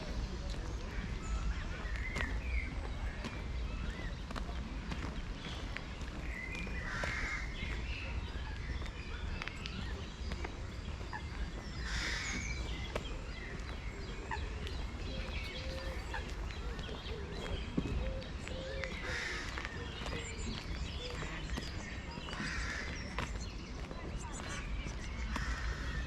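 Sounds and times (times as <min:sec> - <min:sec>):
wind rumbling on microphone: 0:00.0 - 0:26.0
birds calling: 0:00.2 - 0:26.0.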